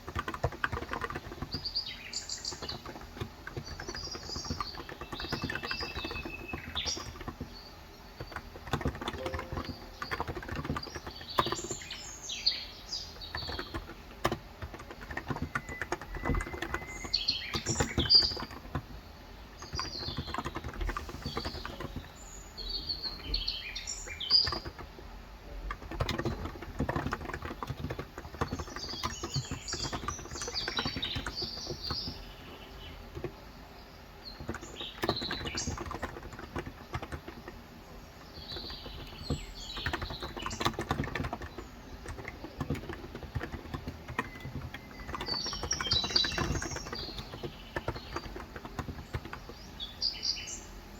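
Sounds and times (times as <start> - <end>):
typing on a keyboard: 0.0 - 50.2
small birds chirping: 0.0 - 50.9.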